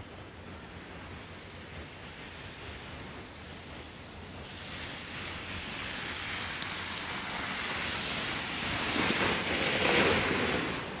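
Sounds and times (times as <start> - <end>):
car tyres hissing in slush: 0.0 - 11.0
wind: 0.0 - 11.0.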